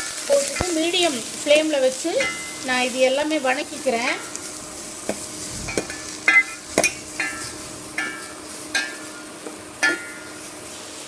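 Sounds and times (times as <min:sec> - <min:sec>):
light sizzle of frying: 0:00.0 - 0:11.0.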